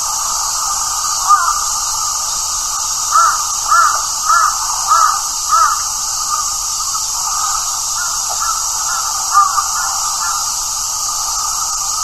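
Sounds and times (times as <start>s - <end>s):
steady hiss: 0.0s - 12.0s
crow cawing: 0.2s - 2.1s, 3.1s - 12.0s.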